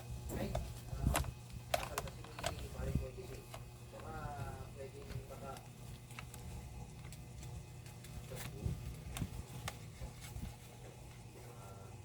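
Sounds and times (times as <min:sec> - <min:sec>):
steady low hum: 0:00.0 - 0:12.0
handling noise with clicks: 0:00.3 - 0:11.3.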